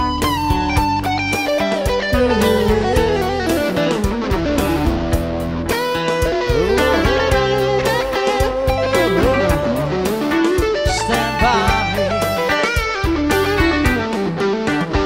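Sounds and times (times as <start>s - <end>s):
bass line: 0.0s - 14.2s
electric guitar lead: 0.0s - 15.0s.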